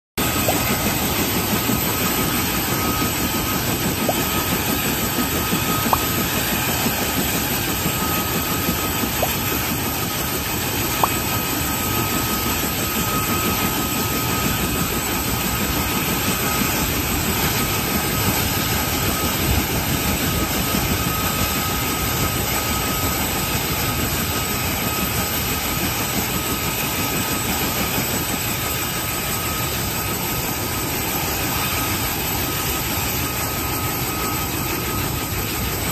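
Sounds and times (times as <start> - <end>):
helicopter turbine whine: 0.2 - 35.9.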